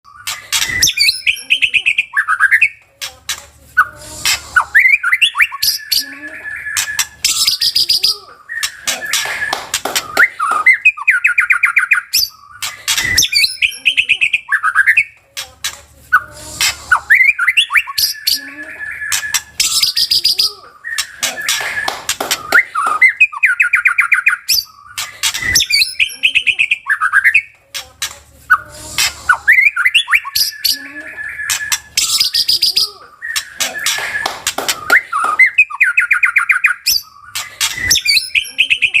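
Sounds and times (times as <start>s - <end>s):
bird singing whistles and trills: 0.1s - 2.8s, 4.6s - 15.2s, 16.9s - 27.5s, 29.3s - 39.0s.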